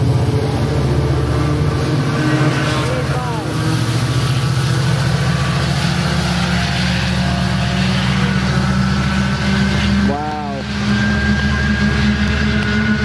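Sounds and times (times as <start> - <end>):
diesel locomotive engine drone: 0.0 - 13.0
train wheels rumbling on rails: 0.0 - 13.0.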